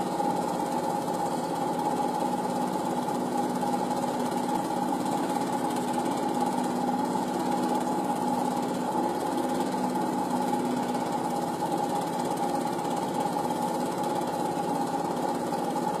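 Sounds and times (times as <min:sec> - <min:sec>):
film projector clatter: 0:00.0 - 0:16.0.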